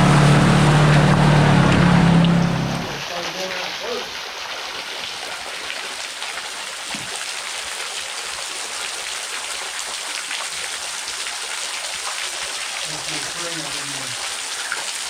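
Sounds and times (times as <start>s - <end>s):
waterfall pouring: 0.0s - 15.0s.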